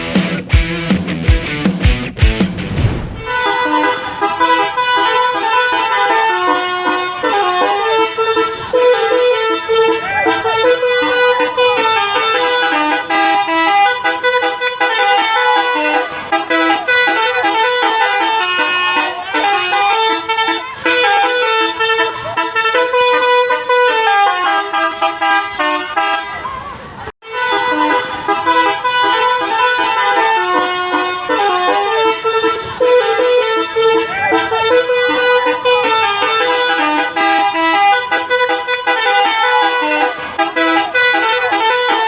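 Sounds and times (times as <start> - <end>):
bus air horns playing tunes: 3.0 - 26.6, 27.2 - 42.0.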